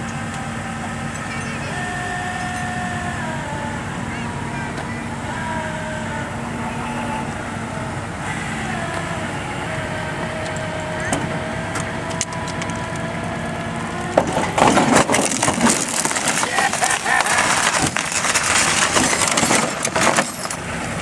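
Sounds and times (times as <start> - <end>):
tow truck engine whining: 0.0 - 21.0.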